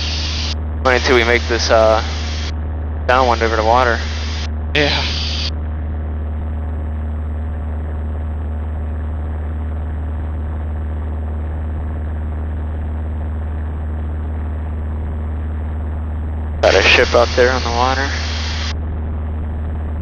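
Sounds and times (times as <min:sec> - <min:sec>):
airplane engine and propeller droning: 0:00.0 - 0:20.0.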